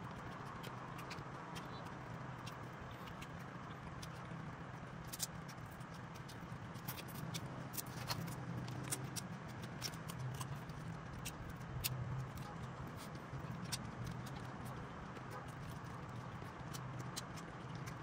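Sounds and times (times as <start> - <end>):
crab shells cracking: 0.0 - 18.0
steady low hum: 0.0 - 18.0.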